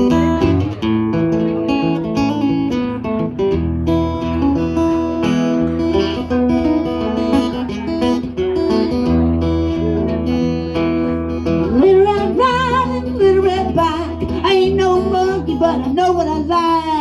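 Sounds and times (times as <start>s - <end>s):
acoustic guitar plucking: 0.0s - 17.0s
bass line: 2.9s - 17.0s.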